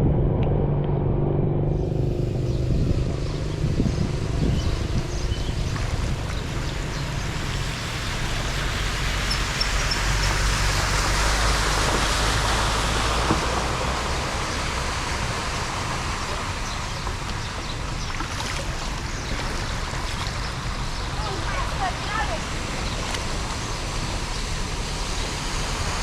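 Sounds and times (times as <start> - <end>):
steady low rumble: 0.0 - 26.0
water rushing: 1.5 - 26.0.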